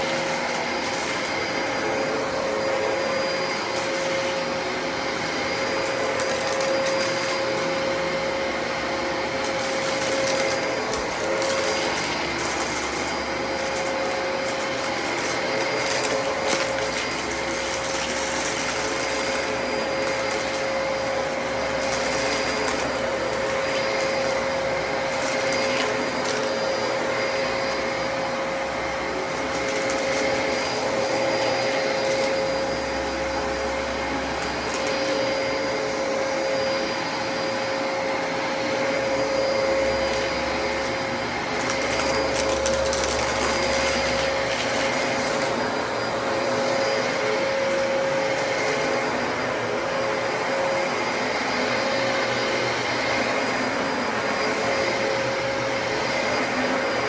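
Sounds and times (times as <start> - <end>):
upright vacuum cleaner running: 0.0 - 57.0.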